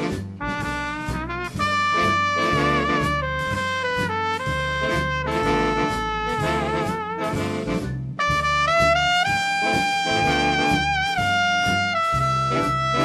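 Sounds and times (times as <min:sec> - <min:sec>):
jazz music with brass melody: 0:00.0 - 0:13.0.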